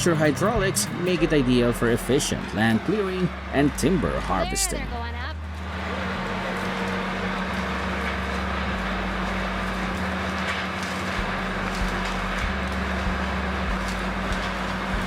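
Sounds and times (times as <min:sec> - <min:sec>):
heavy machine engine droning: 0:00.0 - 0:15.0.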